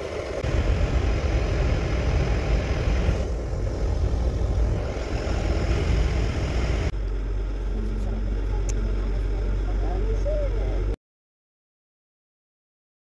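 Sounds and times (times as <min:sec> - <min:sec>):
train wheels rumbling: 0:00.0 - 0:10.9
steady low hum: 0:00.0 - 0:11.0.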